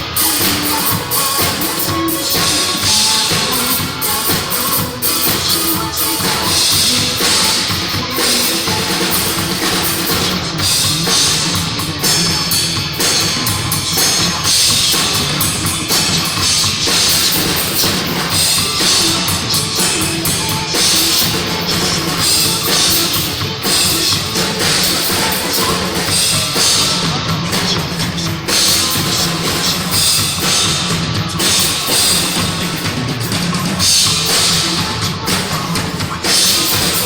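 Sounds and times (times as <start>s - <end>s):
drum kit: 0.0s - 37.0s
loud rock music: 0.0s - 37.0s.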